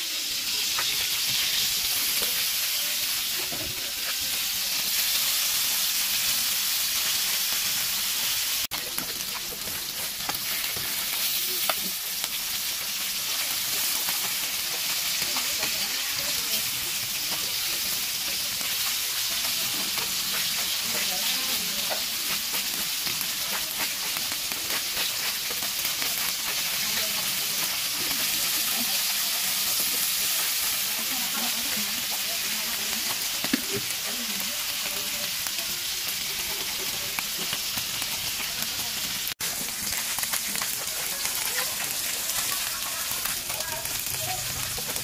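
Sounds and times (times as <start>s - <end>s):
fish sizzling in hot oil: 0.0s - 45.0s.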